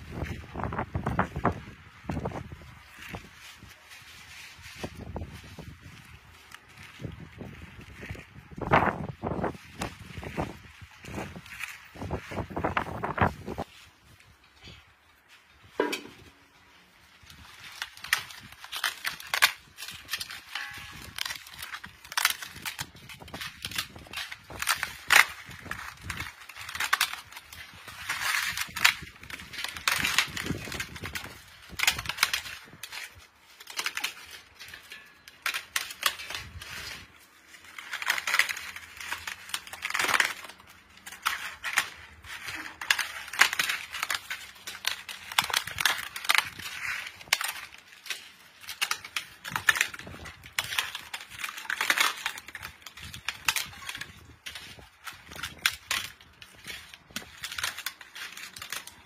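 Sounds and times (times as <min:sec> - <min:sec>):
papad sheets crackling: 0:00.0 - 0:59.0.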